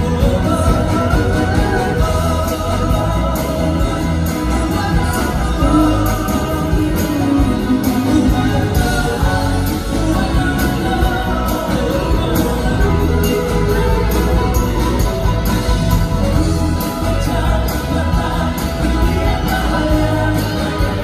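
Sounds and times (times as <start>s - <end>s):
live band playing: 0.0s - 21.0s
man singing pop song: 0.0s - 21.0s.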